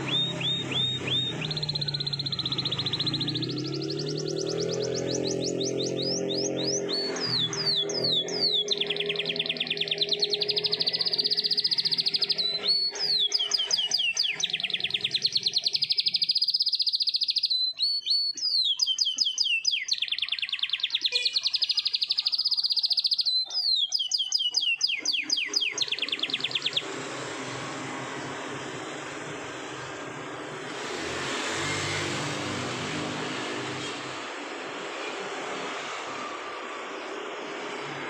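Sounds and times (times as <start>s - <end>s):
canary singing: 0.0s - 36.3s.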